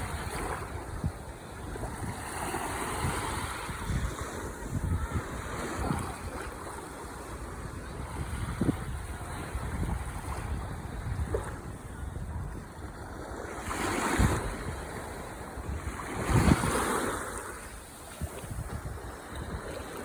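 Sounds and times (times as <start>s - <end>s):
ocean waves washing ashore: 0.0s - 20.0s
wind rumble on microphone: 0.0s - 20.0s.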